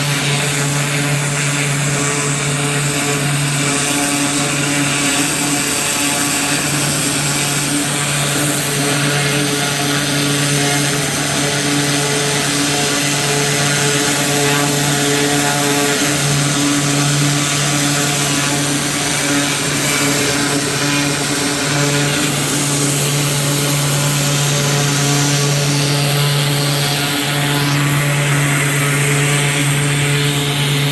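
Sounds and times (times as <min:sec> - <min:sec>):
small gasoline engine running: 0:00.0 - 0:30.9.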